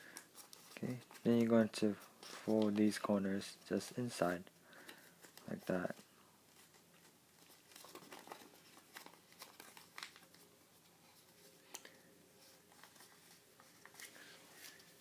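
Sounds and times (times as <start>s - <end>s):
paper crinkling and rustling: 0.0s - 4.2s, 4.8s - 15.0s.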